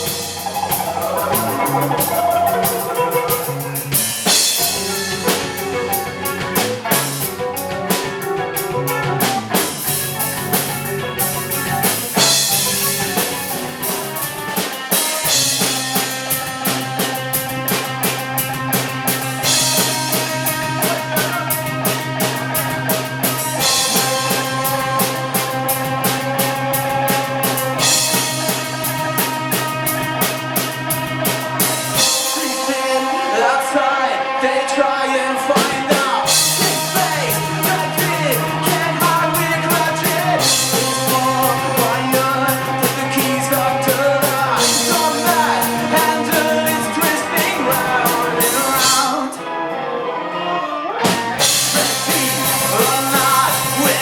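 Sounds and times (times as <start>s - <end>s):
bass line: 0.0s - 32.6s, 35.6s - 49.3s, 51.0s - 54.0s
drums with cymbals: 0.0s - 33.4s, 35.6s - 49.2s, 51.0s - 54.0s
electric guitar chords: 0.0s - 54.0s.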